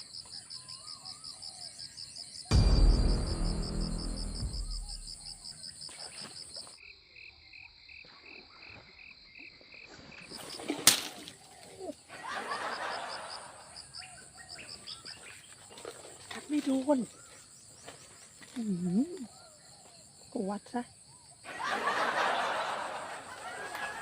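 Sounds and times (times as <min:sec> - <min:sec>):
frogs and insects calling: 0:00.0 - 0:02.5, 0:05.4 - 0:24.0.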